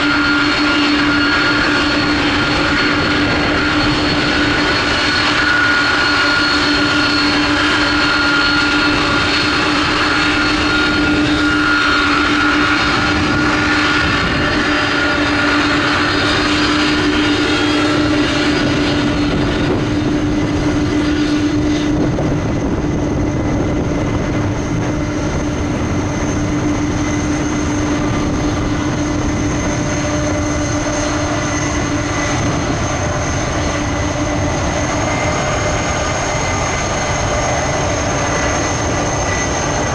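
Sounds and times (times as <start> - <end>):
jet engines humming and whining: 0.0 - 39.9.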